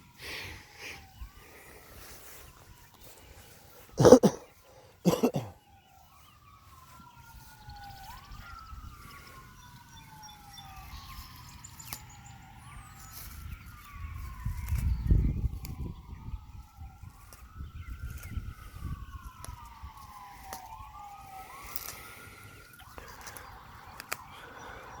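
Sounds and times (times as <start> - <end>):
distant siren wailing: 0.0 - 25.0.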